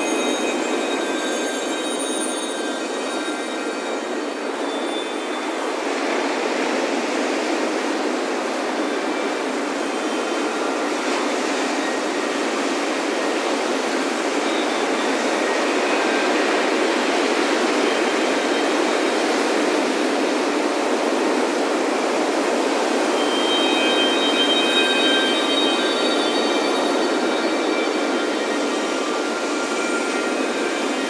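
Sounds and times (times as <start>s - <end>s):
metal wind chimes: 0.0s - 31.0s
ocean surf breaking: 5.5s - 31.0s.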